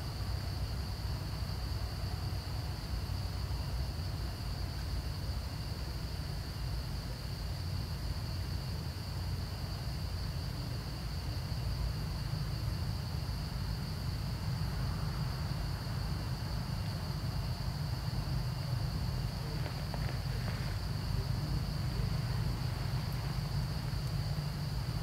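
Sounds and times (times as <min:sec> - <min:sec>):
low constant rumble: 0:00.0 - 0:25.0.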